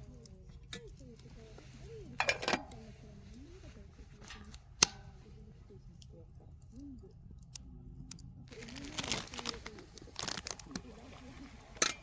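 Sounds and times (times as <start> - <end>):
rustling and crinkling: 0.0 - 7.0, 8.5 - 12.0.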